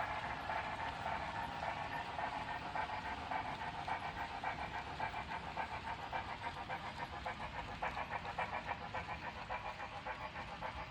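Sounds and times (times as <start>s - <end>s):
model steam locomotive chuffing: 0.0s - 10.9s.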